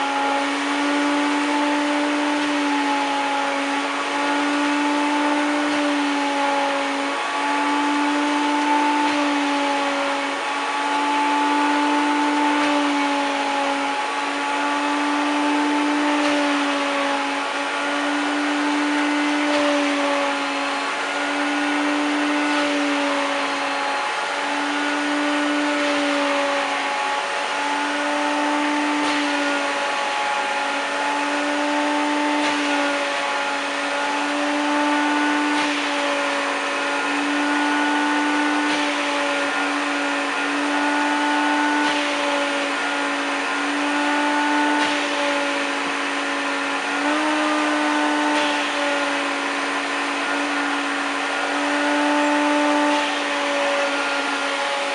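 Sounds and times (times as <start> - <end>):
vacuum cleaner motor whine: 0.0 - 54.9.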